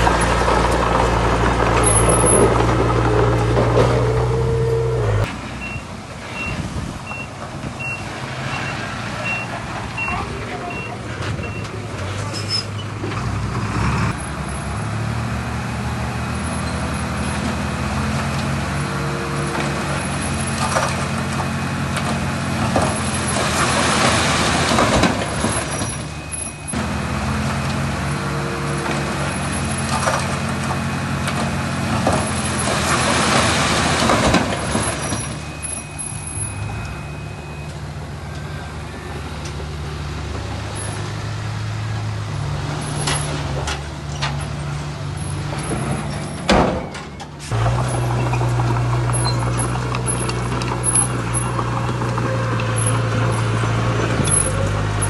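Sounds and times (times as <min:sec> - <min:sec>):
diesel construction machinery: 0:00.0 - 0:55.0.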